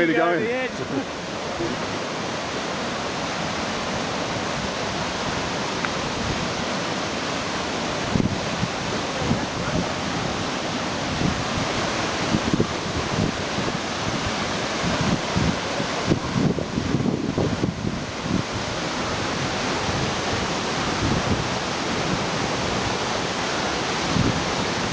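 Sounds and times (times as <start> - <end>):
waterfall and creek rushing: 0.0 - 24.9
wind buffeting microphone: 0.7 - 24.9.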